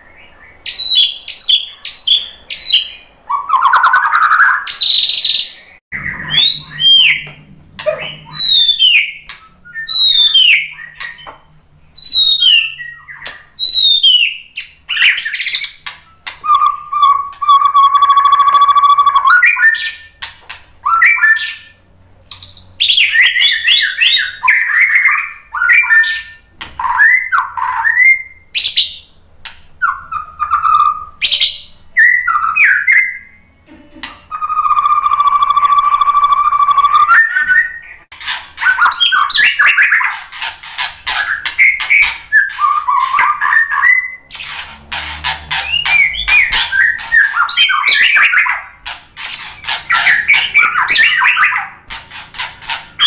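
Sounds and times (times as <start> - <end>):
bird singing whistled phrases: 0.0 - 11.4, 12.0 - 20.2, 20.8 - 29.1, 29.8 - 33.5, 34.3 - 38.0, 38.6 - 40.1, 41.2 - 44.5, 45.6 - 51.8.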